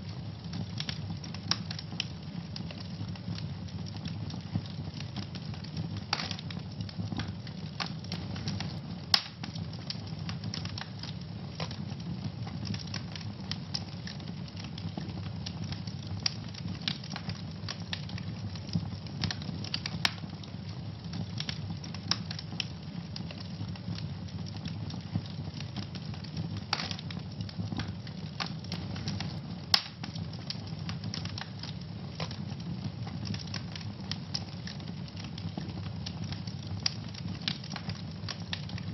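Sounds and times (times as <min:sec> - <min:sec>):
low rumble of fire: 0:00.0 - 0:38.9
wood fire crackling: 0:00.0 - 0:38.9
sharp pops from fire: 0:00.5 - 0:20.5, 0:21.1 - 0:32.6, 0:33.2 - 0:38.9.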